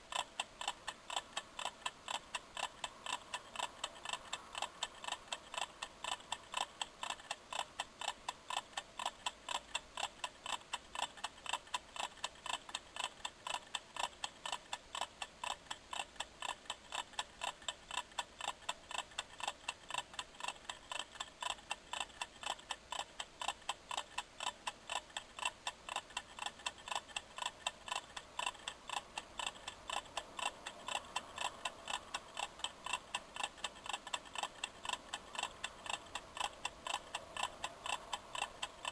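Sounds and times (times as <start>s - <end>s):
kitchen timer ticking: 0.0s - 38.9s.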